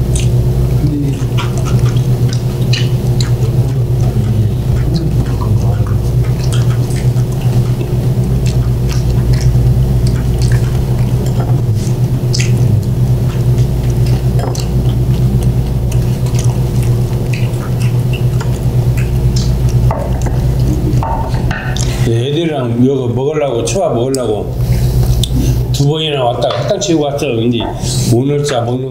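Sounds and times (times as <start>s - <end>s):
close chewing: 0.0s - 22.1s, 24.1s - 26.8s
steady low hum: 0.0s - 28.9s.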